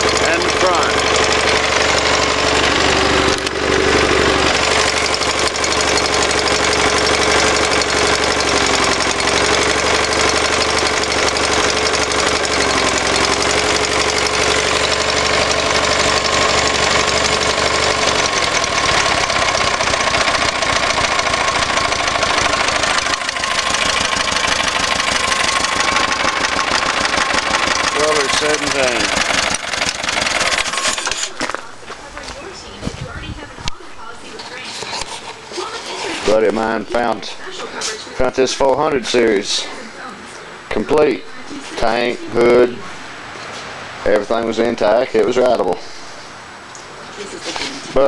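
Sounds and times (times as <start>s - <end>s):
tractor engine idling: 0.0s - 48.0s.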